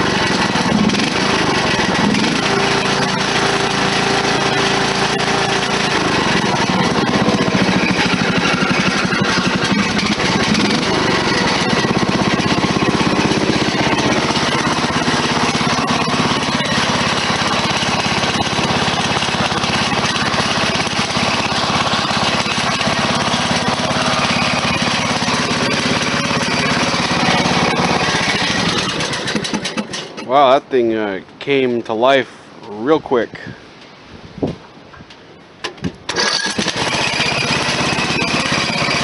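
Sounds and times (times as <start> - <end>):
lawn mower engine running: 0.0 - 30.8, 35.1 - 39.0.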